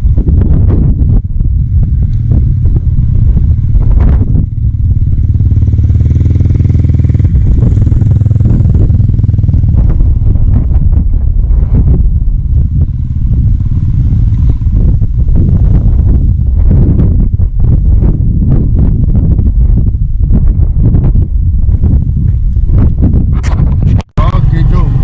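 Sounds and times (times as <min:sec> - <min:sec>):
boat engine running: 0:00.0 - 0:19.7, 0:20.4 - 0:25.0
wind buffeting microphone: 0:00.0 - 0:25.0.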